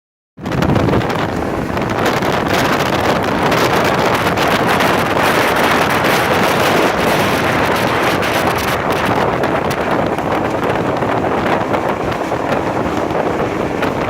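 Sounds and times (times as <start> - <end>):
wind rushing over microphone: 0.4 - 14.0.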